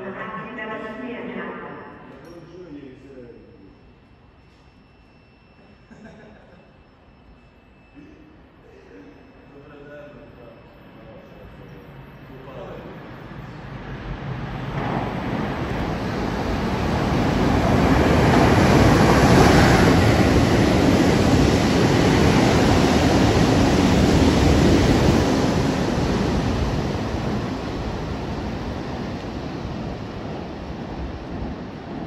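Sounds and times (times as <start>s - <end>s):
electric train passing: 0.4s - 32.0s.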